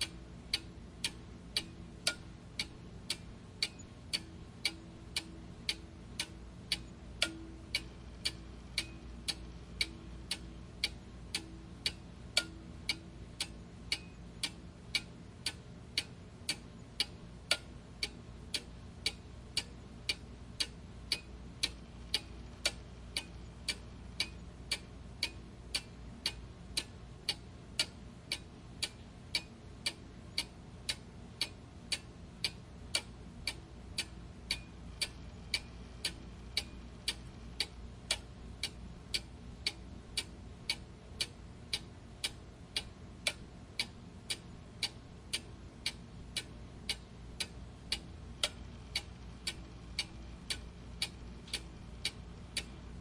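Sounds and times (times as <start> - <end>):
faint low hum: 0.0 - 53.0
mechanical clock ticking: 0.0 - 53.0.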